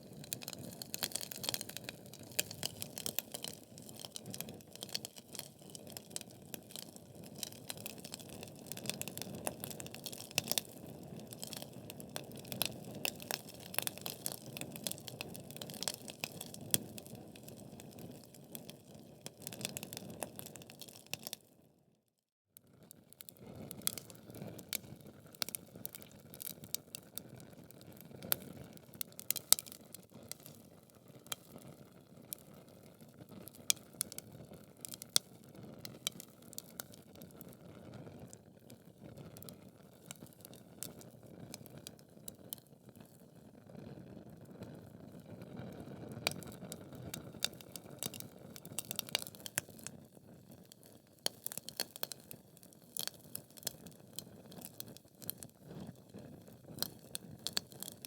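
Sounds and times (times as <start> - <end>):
wood fire crackling and popping: 0.0 - 21.4, 23.2 - 43.2, 45.1 - 58.0.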